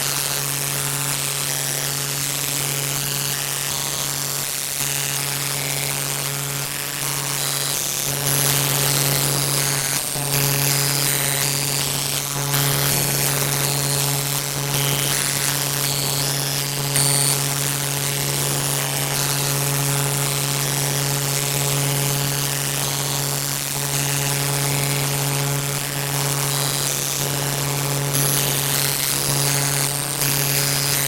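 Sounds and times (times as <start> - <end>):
loud low buzzing drone: 0.0 - 31.0.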